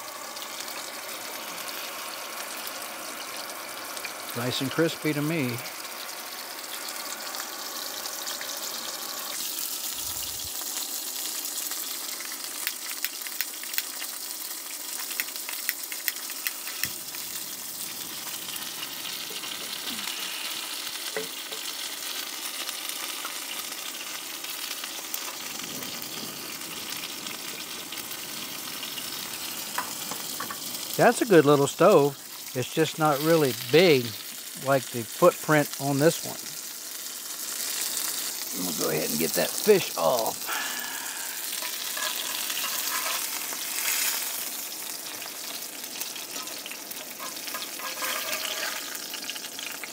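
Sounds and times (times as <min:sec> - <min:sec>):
fish frying in oil: 0:00.0 - 0:49.9.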